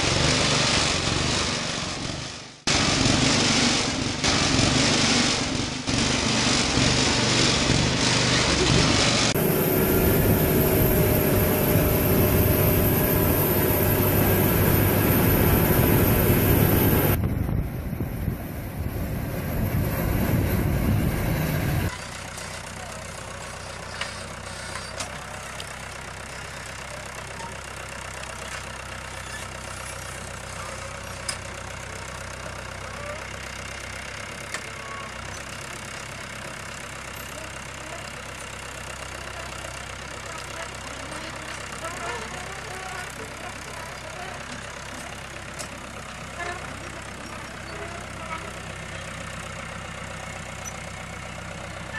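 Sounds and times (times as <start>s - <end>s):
farm machinery engine running: 0.0s - 51.9s.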